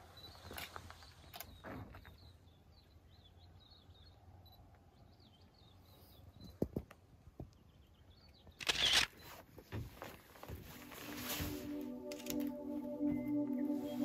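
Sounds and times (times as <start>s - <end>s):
faint birdsong chirps: 0.0s - 12.1s.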